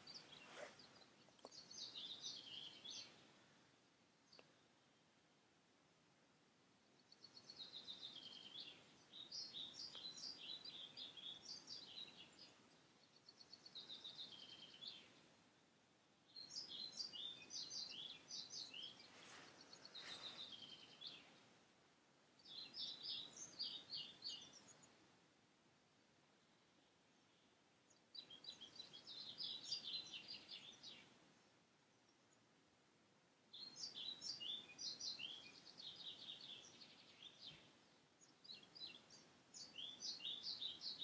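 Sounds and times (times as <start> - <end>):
songbird singing: 0.0 - 5.8, 6.4 - 41.0.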